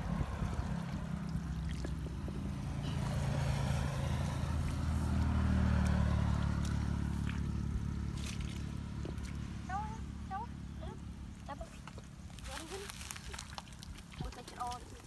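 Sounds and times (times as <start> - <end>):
motor engine humming: 0.0 - 12.8
muddy water splashing: 0.0 - 15.0.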